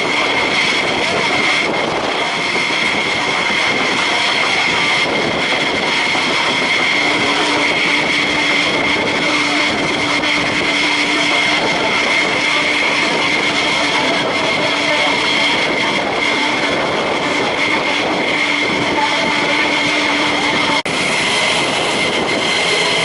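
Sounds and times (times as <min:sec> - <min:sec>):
jet engines whining: 0:00.0 - 0:23.0.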